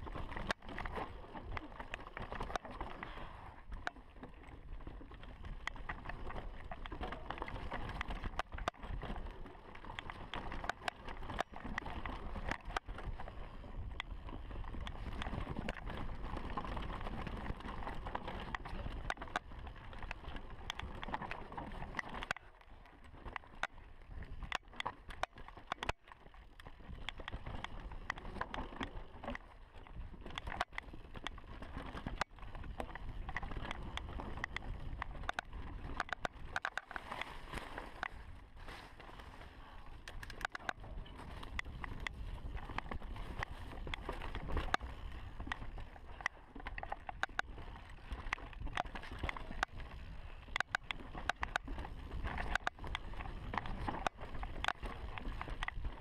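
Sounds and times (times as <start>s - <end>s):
bike tyres rumbling on dirt trail: 0.0s - 56.0s.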